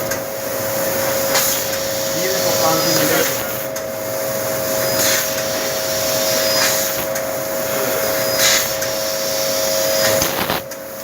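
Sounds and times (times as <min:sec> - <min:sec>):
laser cutter hiss: 0:00.0 - 0:11.0
laser cutter two-note hum: 0:00.7 - 0:10.5.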